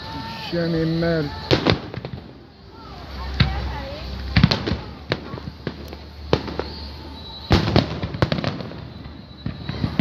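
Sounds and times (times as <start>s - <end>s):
fireworks bursting with bangs: 0.0s - 10.0s
fireworks crackling: 0.0s - 10.0s.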